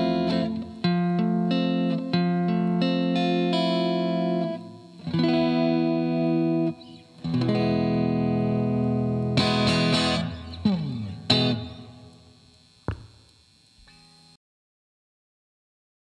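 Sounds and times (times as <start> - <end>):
electric guitar strumming chords: 0.0 - 14.3.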